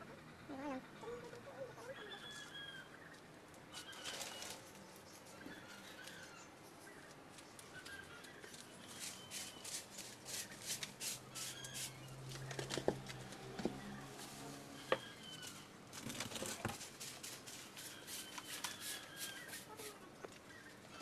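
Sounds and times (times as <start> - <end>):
plant leaves rustling: 3.7 - 20.5.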